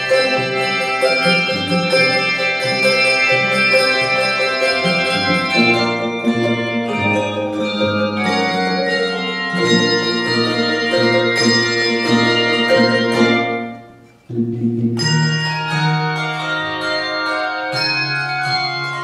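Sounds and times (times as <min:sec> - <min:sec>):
handbell choir ringing chords: 0:00.0 - 0:13.9, 0:15.0 - 0:19.0
low bass bells striking: 0:00.0 - 0:19.0.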